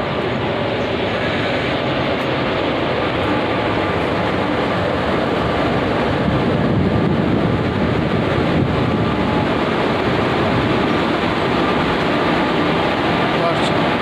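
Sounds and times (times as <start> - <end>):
faint steady whine: 0.0 - 14.0
train wheels on rails: 0.0 - 14.0.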